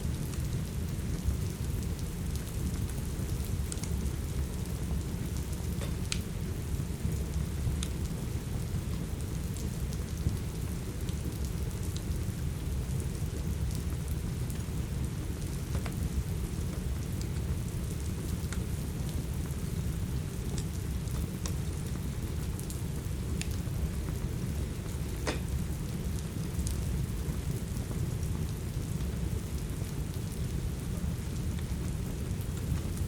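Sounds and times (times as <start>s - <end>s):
steady rain: 0.0s - 33.0s
wood fire crackling: 0.1s - 33.0s.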